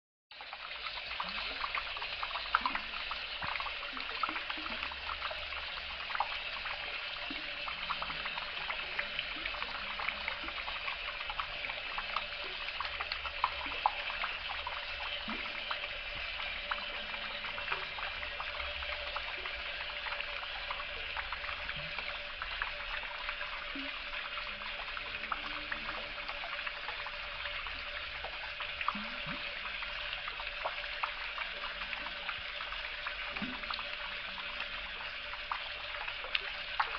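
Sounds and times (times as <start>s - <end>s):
tap water running into basin: 0.3s - 36.9s.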